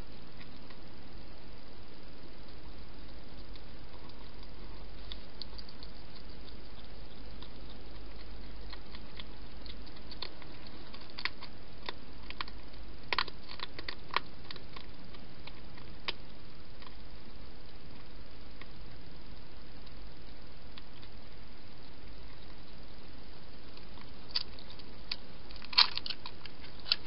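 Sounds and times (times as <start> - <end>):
background hiss: 0.0 - 27.0
hedgehog crunching food: 0.0 - 27.0.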